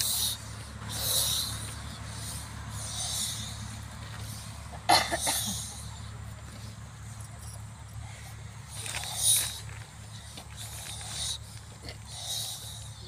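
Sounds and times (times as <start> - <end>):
person hissing snorting breaths: 0.0 - 6.2, 8.0 - 13.0
steady low hum: 0.0 - 13.0.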